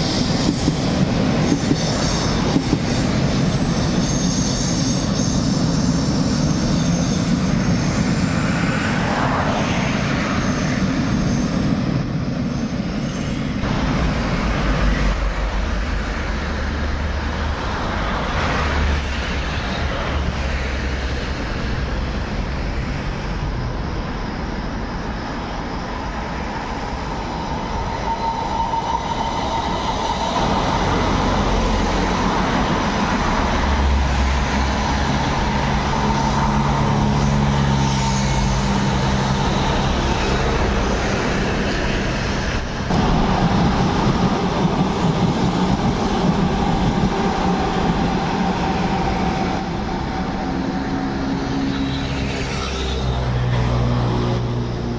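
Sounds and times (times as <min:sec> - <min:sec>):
train rumbling on tracks: 0:00.0 - 0:54.9.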